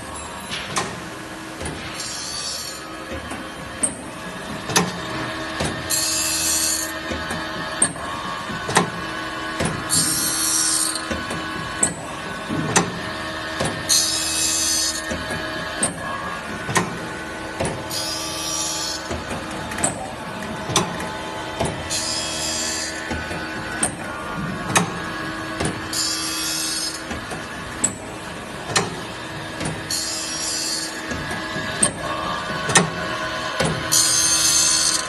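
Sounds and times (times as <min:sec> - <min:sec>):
motor hum: 0:00.0 - 0:35.0.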